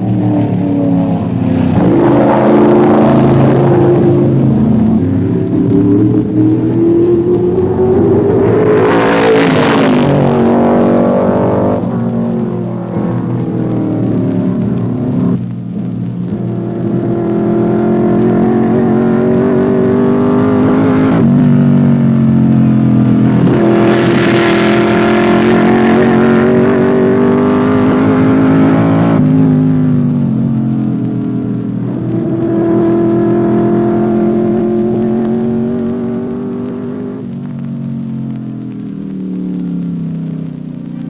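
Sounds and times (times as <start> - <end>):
racing car engine at speed: 0.0 - 41.0.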